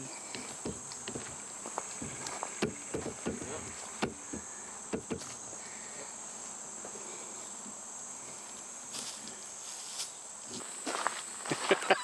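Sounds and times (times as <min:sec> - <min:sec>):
insect chorus shrill drone: 0:00.0 - 0:12.0
soft footsteps on trail: 0:00.0 - 0:12.0.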